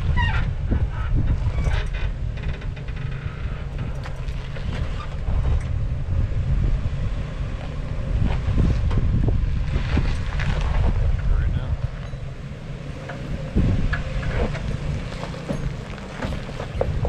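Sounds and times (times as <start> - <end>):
off-road vehicle engine crawling: 0.0 - 17.0
wind buffeting microphone: 0.0 - 17.0.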